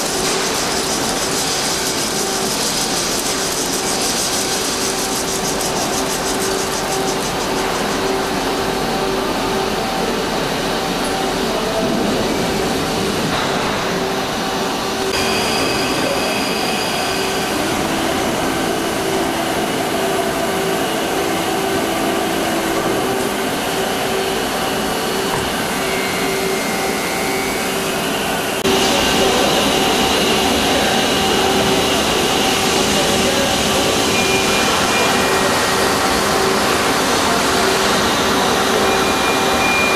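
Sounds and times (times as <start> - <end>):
lathe machine hum: 0.0 - 39.9.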